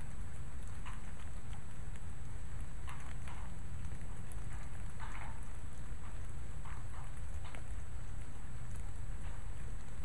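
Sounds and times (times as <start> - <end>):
constant low rumble: 0.0 - 10.0
steady rain falling: 0.0 - 10.0.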